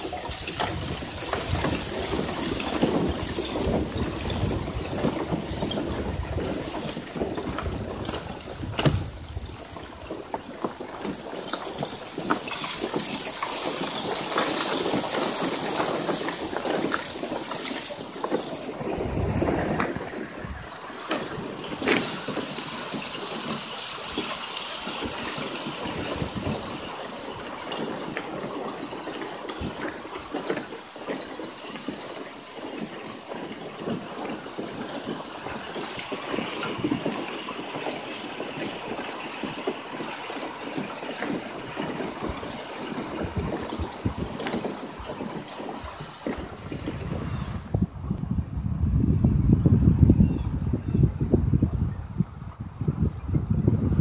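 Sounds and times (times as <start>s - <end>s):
ice knocking on kayak: 0.0s - 47.5s
ice crackling against kayak: 0.0s - 48.6s.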